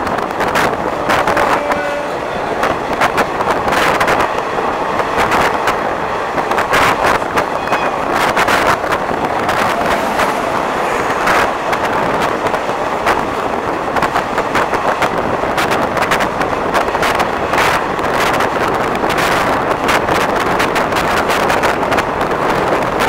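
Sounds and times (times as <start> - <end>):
clatter of train wheels: 0.0 - 23.0
trains rushing past: 0.0 - 23.0
wind buffeting microphone: 0.0 - 23.0.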